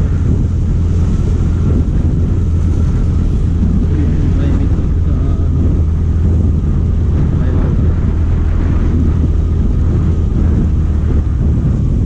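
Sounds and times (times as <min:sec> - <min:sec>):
vehicle engine droning: 0:00.0 - 0:12.0
wind noise on microphone: 0:00.0 - 0:12.0.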